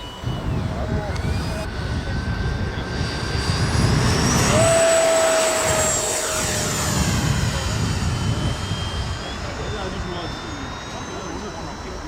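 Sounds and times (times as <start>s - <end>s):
model jet fan whining past: 0.0s - 12.0s.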